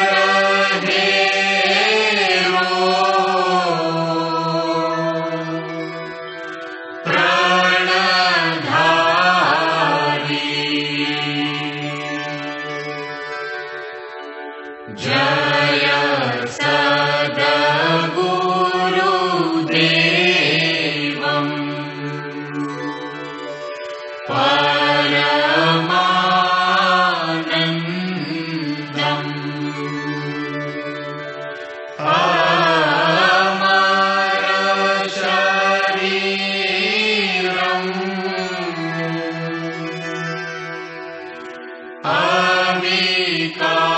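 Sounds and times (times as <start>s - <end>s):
voices chanting devotional song: 0.0s - 13.8s, 14.8s - 43.9s
held instrumental drone: 0.0s - 43.9s.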